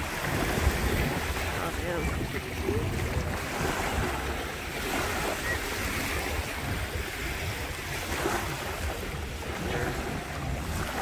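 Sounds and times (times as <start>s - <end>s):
waves lapping on shore: 0.0s - 11.0s
wind buffeting microphone: 0.0s - 11.0s.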